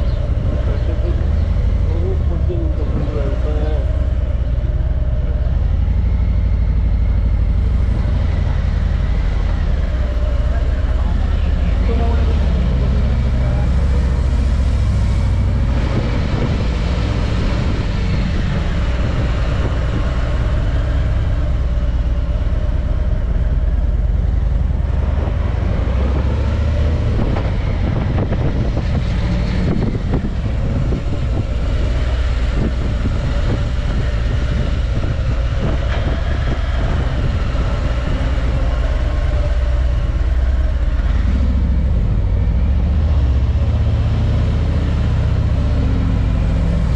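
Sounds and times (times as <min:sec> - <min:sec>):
car engine and road rumble: 0:00.0 - 0:46.9.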